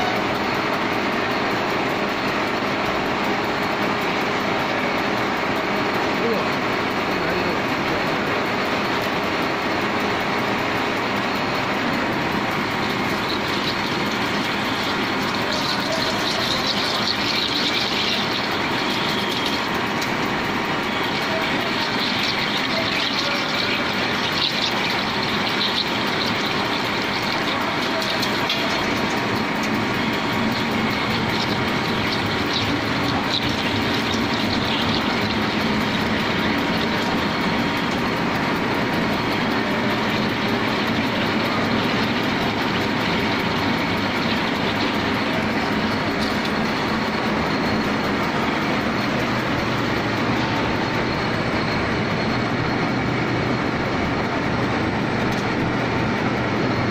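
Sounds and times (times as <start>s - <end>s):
coolant spraying: 0.0s - 56.7s
drilling machine cutting steel: 0.0s - 56.9s.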